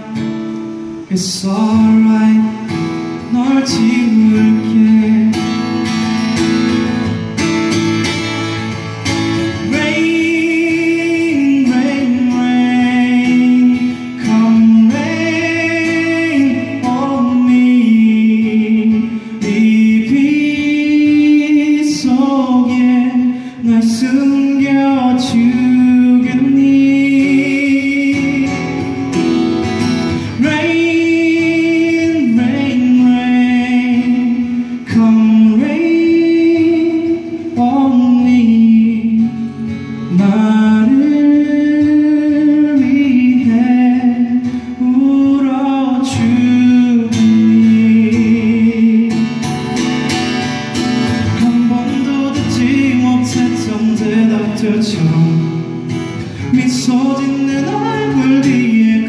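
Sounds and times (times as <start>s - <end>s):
man singing into a microphone: 0.0s - 59.0s
strummed acoustic guitar: 0.0s - 59.0s.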